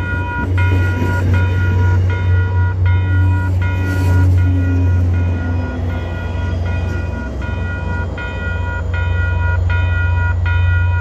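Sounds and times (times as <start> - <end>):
crossing warning bell ringing: 0.0 - 11.0
train passing with low rumble: 0.0 - 11.0.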